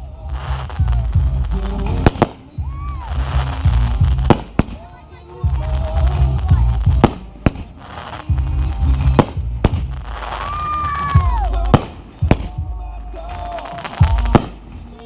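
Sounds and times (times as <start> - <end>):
fireworks booming: 0.0 - 15.0
pop music with heavy bass: 0.0 - 15.0.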